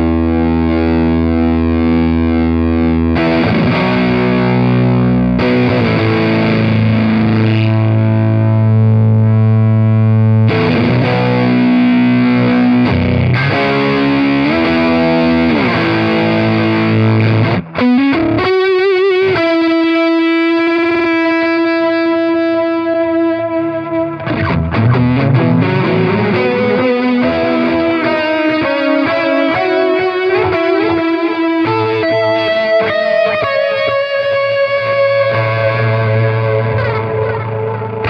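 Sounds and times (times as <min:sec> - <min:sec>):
distorted electric guitar chords: 0:00.0 - 0:38.0
guitar note with vibrato: 0:00.0 - 0:38.0.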